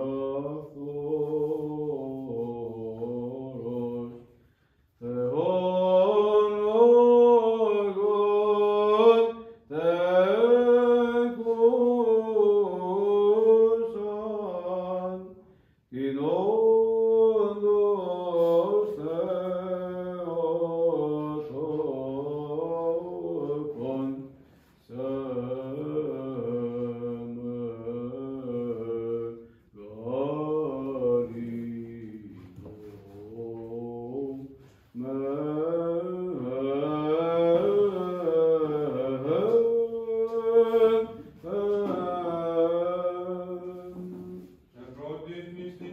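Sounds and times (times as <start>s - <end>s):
solo voice chanting: 0.0s - 4.4s, 5.0s - 45.9s.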